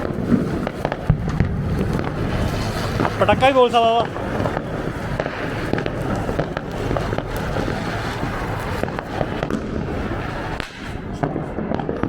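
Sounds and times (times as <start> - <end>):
firecrackers crackling and popping: 0.0 - 12.0.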